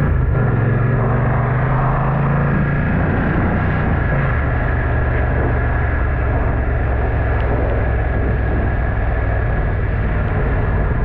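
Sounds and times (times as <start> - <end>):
motorcycle engine accelerating: 0.0 - 11.0
wind rush on microphone: 0.0 - 11.0.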